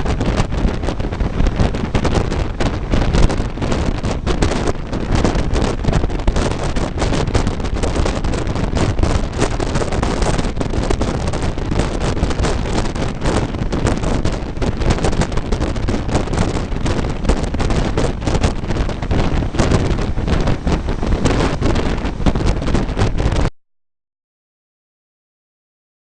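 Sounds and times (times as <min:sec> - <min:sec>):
train carriage rumbling: 0:00.0 - 0:23.4
wind buffeting microphone: 0:00.0 - 0:23.5.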